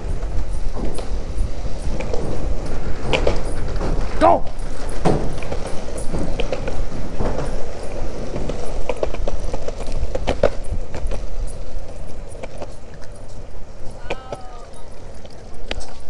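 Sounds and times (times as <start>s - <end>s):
skateboard wheels rumbling on concrete: 0.0s - 16.0s
wheels clacking over joints: 0.0s - 16.0s.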